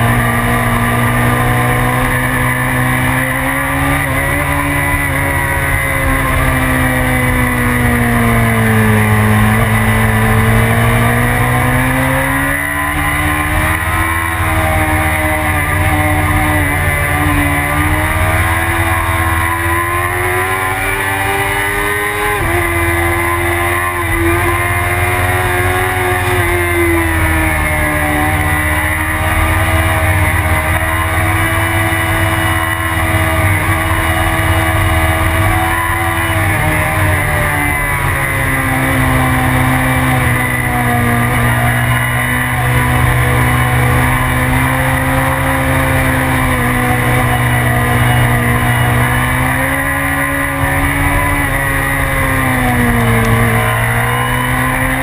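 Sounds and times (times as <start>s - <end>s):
motorcycle engine at speed: 0.0s - 55.0s.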